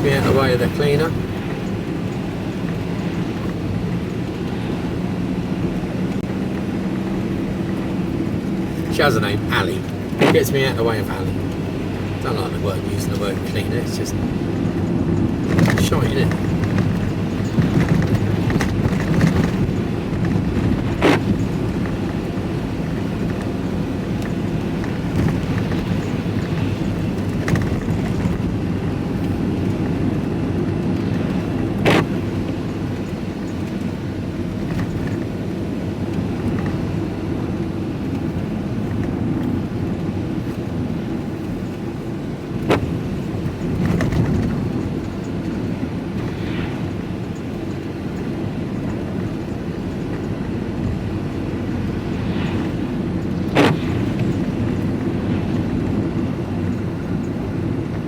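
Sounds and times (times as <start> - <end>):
engine and road noise in cab: 0.0 - 58.0.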